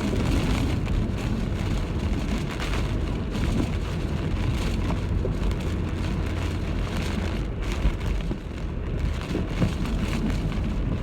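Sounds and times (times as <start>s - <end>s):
gusty wind buffeting microphone: 0.0s - 11.0s
rain: 0.0s - 11.0s.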